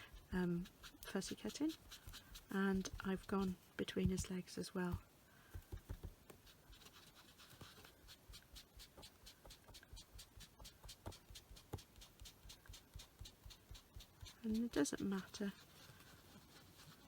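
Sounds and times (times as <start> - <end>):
foam dauber dabbing on card: 0.0 - 17.0.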